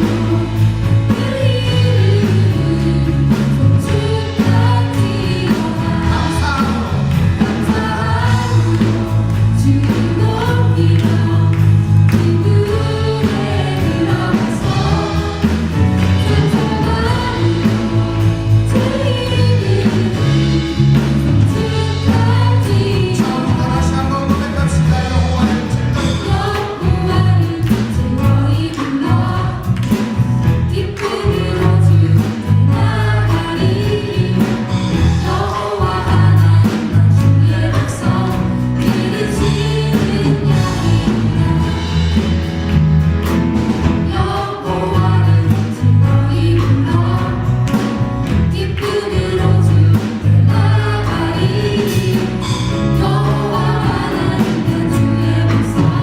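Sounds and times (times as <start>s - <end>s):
bass and drum beat: 0.0s - 56.0s
group singing worship song: 0.0s - 56.0s.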